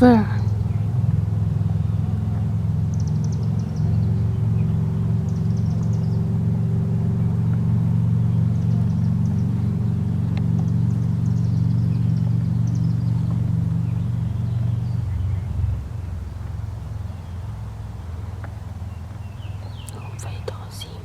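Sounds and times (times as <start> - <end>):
low engine drone: 0.0 - 21.0
small birds chirping: 0.0 - 21.0.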